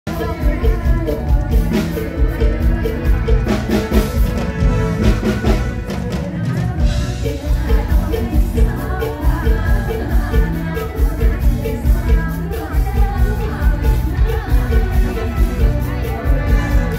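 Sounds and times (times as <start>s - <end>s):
live band playing: 0.0s - 16.9s
drum kit beat: 0.1s - 16.9s
woman singing: 0.1s - 16.9s.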